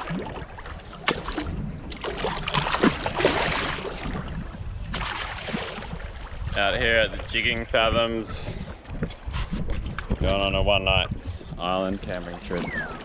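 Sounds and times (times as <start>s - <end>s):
water splashing against boat: 0.0s - 13.0s.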